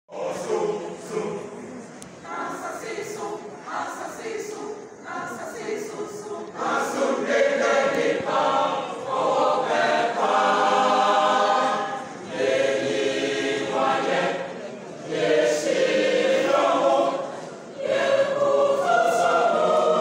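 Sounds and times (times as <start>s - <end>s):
mixed choir singing a hymn: 0.1s - 20.0s.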